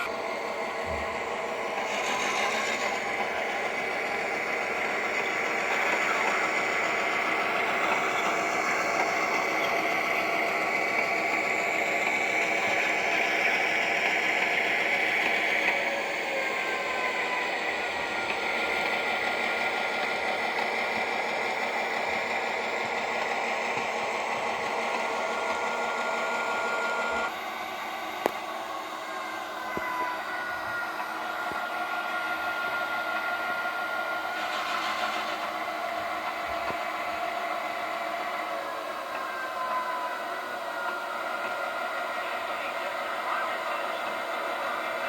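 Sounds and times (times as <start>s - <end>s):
model train motor whirring: 0.0s - 45.0s.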